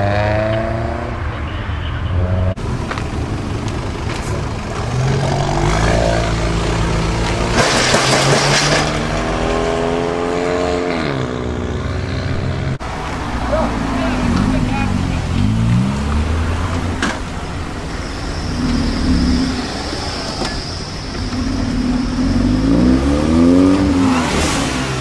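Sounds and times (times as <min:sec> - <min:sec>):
car engines accelerating: 0:00.0 - 0:25.0.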